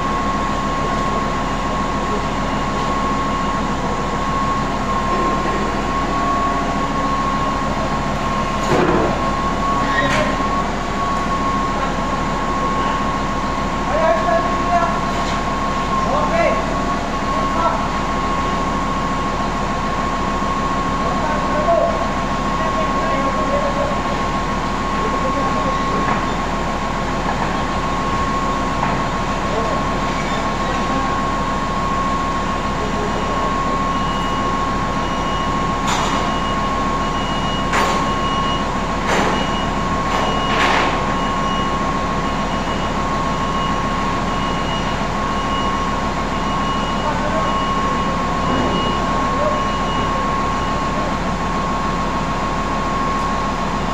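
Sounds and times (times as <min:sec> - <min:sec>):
machinery hum with whine: 0:00.0 - 0:53.9.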